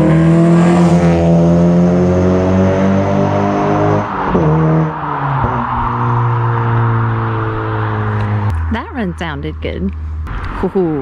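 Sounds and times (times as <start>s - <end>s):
car exhaust at full throttle: 0.0s - 11.0s.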